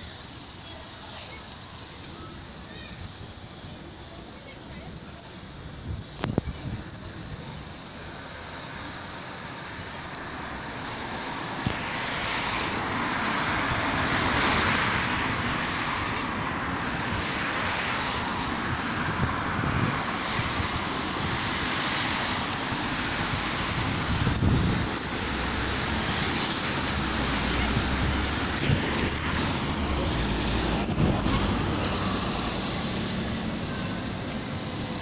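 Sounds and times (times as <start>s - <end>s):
rushing vehicle noise: 0.0s - 35.0s.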